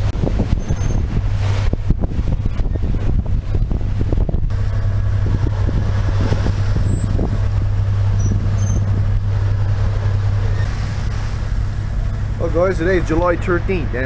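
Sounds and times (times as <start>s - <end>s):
boat engine droning: 0.0s - 14.0s
wind and water rushing: 0.0s - 14.0s.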